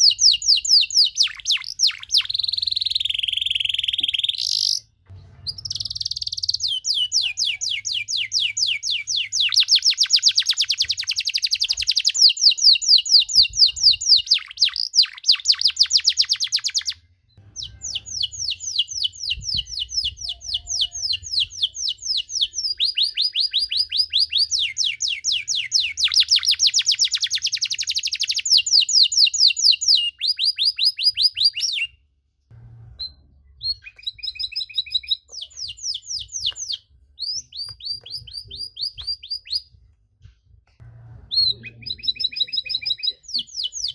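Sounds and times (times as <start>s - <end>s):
canary singing trills: 0.0s - 32.0s, 33.0s - 39.8s, 41.3s - 43.9s.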